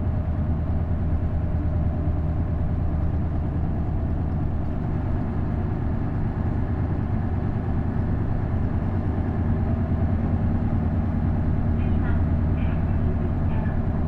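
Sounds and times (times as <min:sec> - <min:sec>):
diesel bus engine running: 0:00.0 - 0:14.0.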